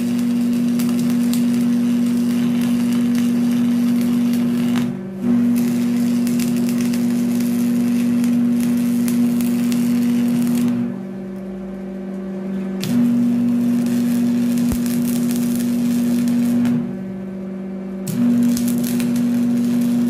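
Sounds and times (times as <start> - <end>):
welding arc crackling: 0.0 - 11.6, 12.8 - 17.2, 18.0 - 20.0
low hum: 0.0 - 20.0.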